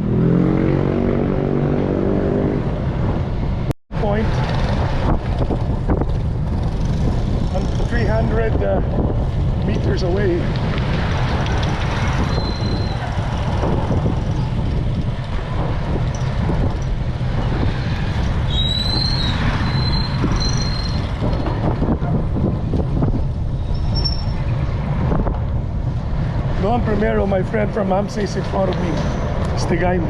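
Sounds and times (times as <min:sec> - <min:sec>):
road noise: 0:00.0 - 0:30.0
wind buffeting microphone: 0:01.0 - 0:30.0.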